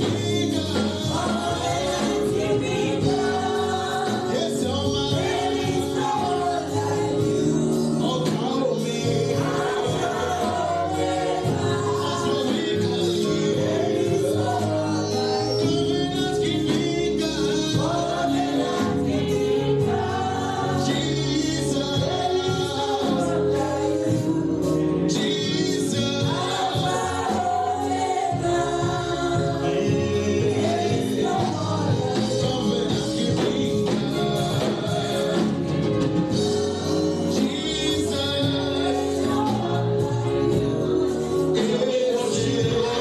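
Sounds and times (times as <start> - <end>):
choir singing gospel over a band: 0.0 - 43.0.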